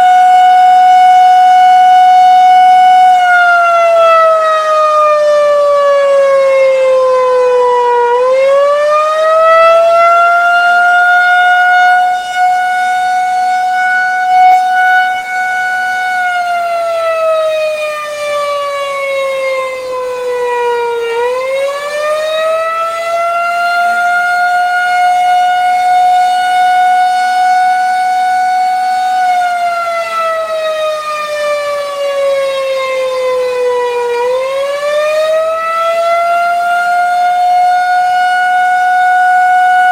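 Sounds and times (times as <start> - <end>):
wailing tornado siren: 0.0 - 39.9.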